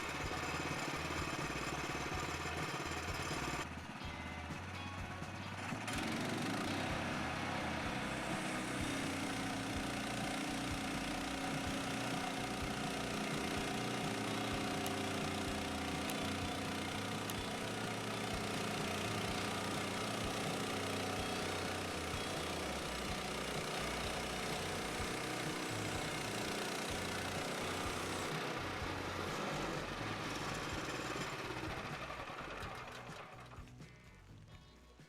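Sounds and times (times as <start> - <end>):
sawmill engine running: 0.0 - 34.2.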